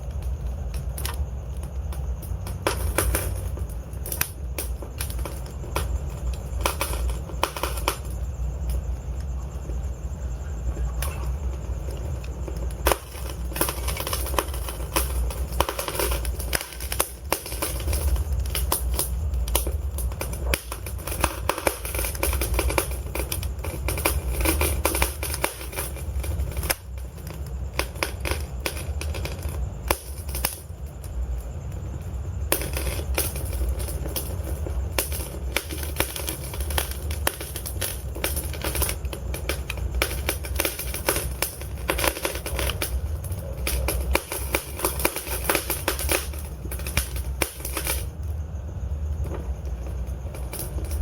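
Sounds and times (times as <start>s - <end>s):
log fire crackling: 0.0s - 51.0s.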